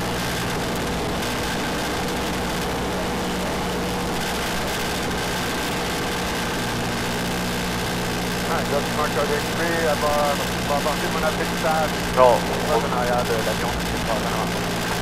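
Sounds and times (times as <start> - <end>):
airplane engine and propeller: 0.0 - 15.0.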